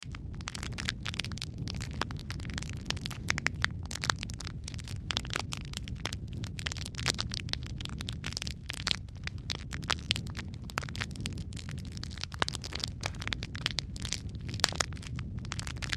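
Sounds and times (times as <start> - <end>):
low rumble of flame: 0.0 - 15.9
wood fire crackling: 0.0 - 15.9.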